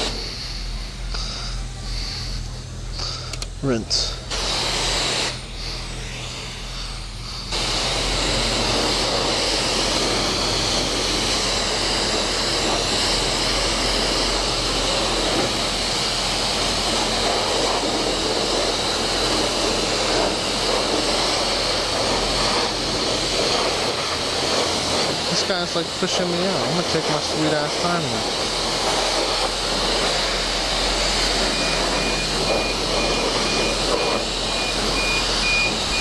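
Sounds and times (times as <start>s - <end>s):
pressure washer spraying water: 0.0s - 36.0s.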